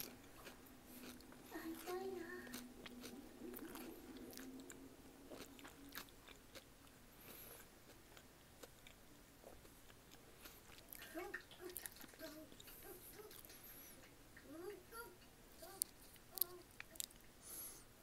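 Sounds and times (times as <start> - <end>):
chewing and crunching food: 0.0 - 14.6, 15.6 - 17.4.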